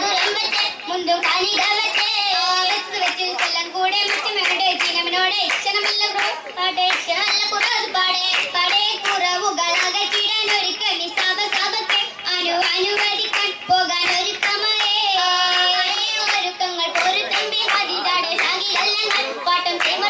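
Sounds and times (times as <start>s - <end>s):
girls singing: 0.0s - 20.0s
rhythmic hand claps: 0.0s - 20.0s.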